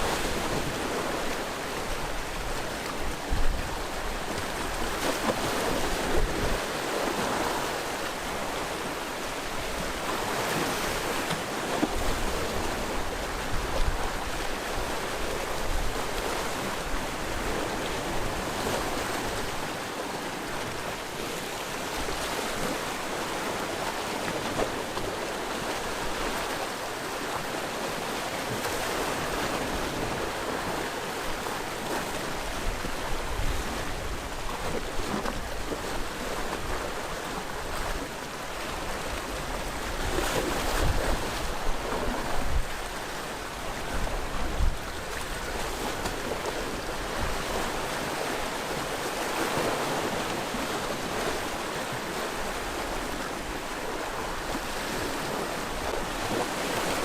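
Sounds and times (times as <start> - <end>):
sea waves washing against rocks: 0.0 - 57.0.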